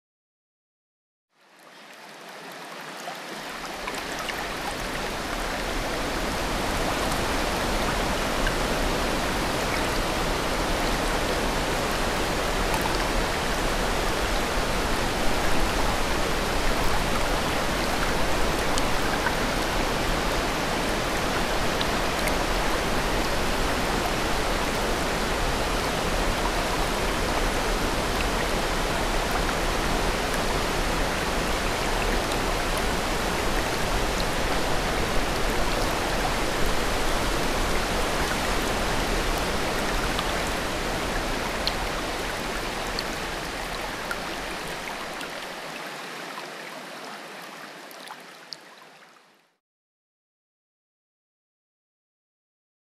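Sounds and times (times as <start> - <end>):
rush of falling water: 1.4 - 49.0.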